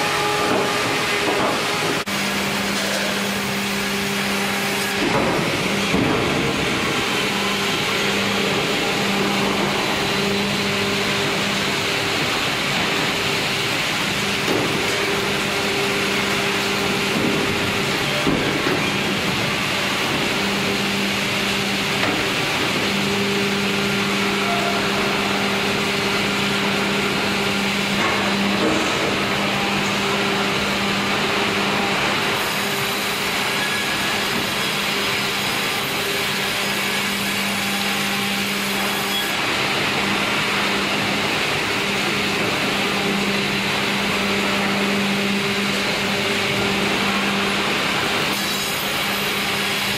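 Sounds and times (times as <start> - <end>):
sawmill machinery din: 0.0 - 49.9.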